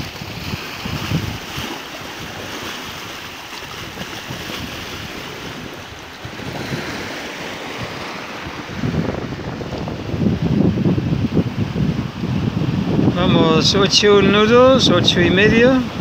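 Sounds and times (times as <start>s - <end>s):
water rushing in boat wake: 0.0s - 16.0s
wind on microphone: 0.0s - 16.0s.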